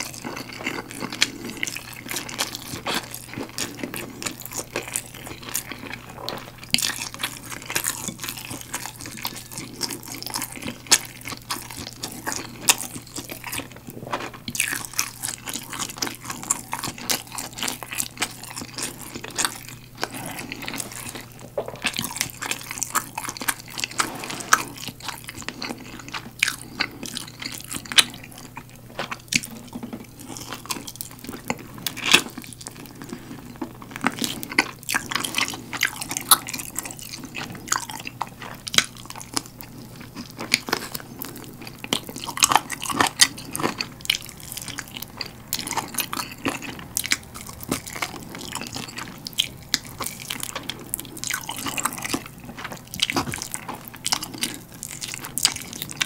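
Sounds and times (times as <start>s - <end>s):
close-miked eating and chewing: 0.0s - 56.0s.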